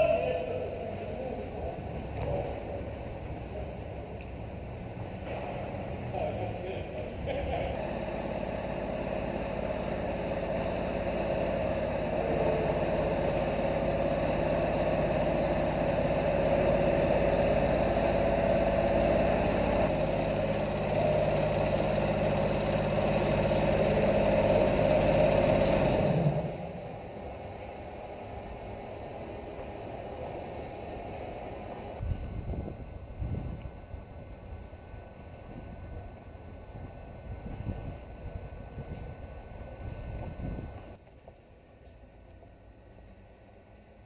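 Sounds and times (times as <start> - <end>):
tram mechanical hum: 0.0 - 44.0.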